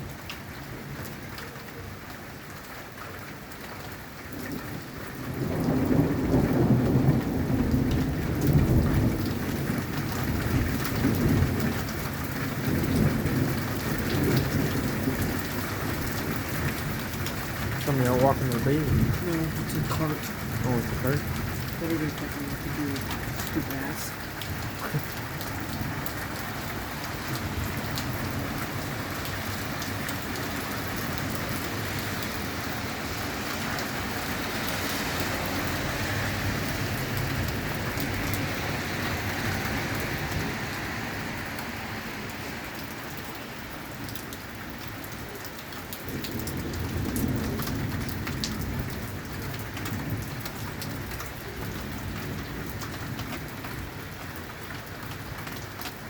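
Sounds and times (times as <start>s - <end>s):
steady rain falling: 0.0s - 56.0s
low rolling thunder: 4.4s - 54.2s.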